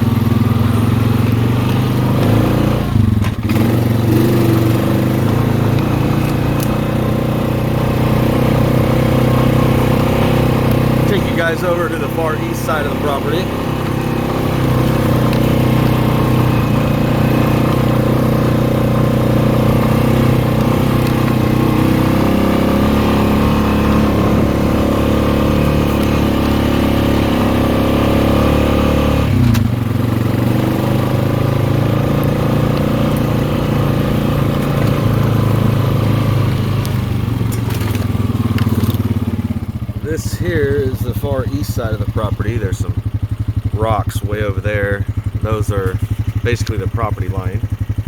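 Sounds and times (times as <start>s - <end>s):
quad bike engine running: 0.0s - 48.0s.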